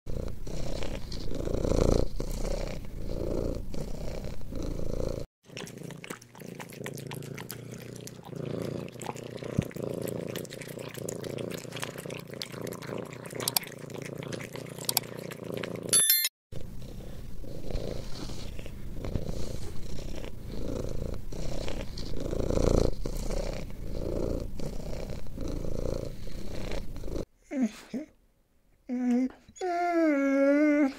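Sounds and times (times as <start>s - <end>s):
cat purring: 0.1s - 15.9s, 16.6s - 27.3s.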